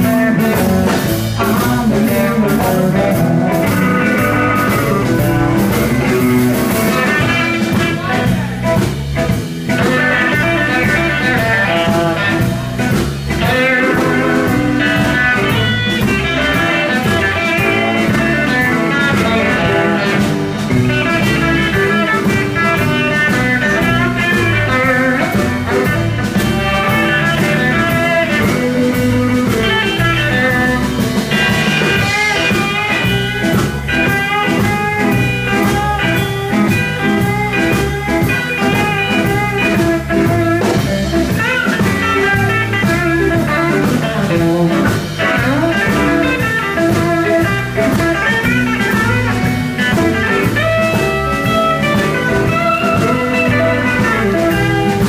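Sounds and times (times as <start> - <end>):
drum kit: 0.0 - 55.0
electric bass: 0.0 - 55.0
electric guitars bending notes: 0.0 - 55.0.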